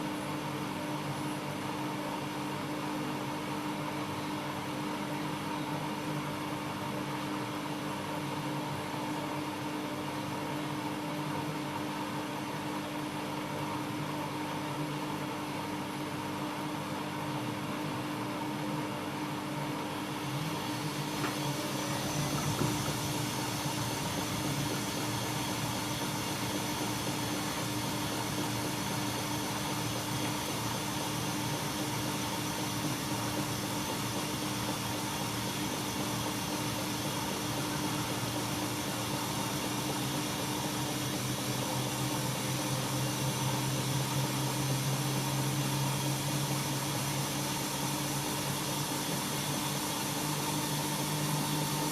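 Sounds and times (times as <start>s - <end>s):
washing machine motor hum: 0.0s - 51.9s.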